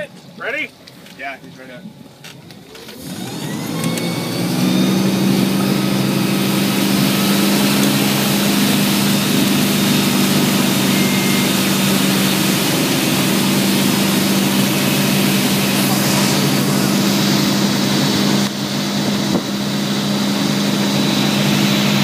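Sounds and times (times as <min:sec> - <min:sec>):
boat engine throttling up: 0:02.5 - 0:22.0
churning water and wind: 0:02.6 - 0:22.0.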